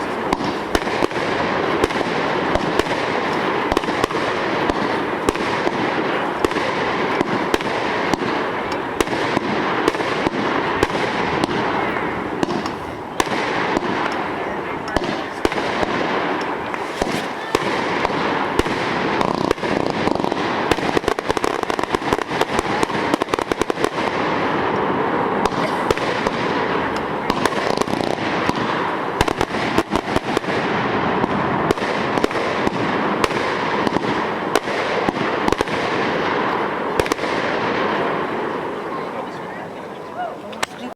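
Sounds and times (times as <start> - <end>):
crackling hiss: 0.0 - 40.9
fireworks shots and bursts: 0.0 - 40.9.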